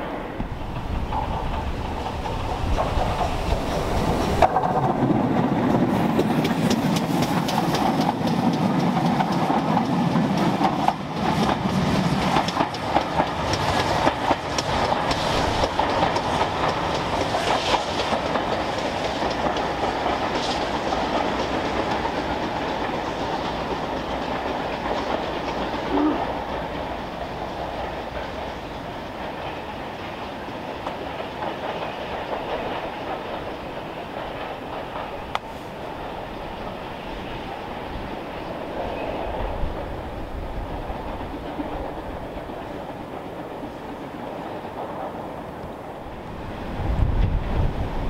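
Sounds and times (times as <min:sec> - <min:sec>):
train wheels clattering over rail joints: 0:00.0 - 0:48.0.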